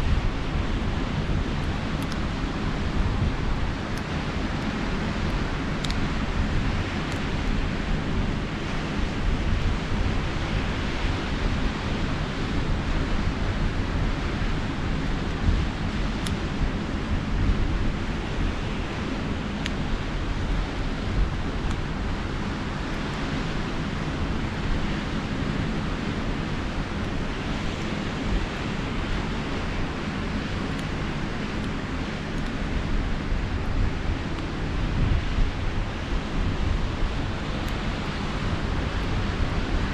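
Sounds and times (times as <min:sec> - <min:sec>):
sea surf: 0:00.0 - 0:39.9
wind: 0:00.0 - 0:39.9
campfire crackling: 0:00.1 - 0:10.3, 0:13.6 - 0:39.9.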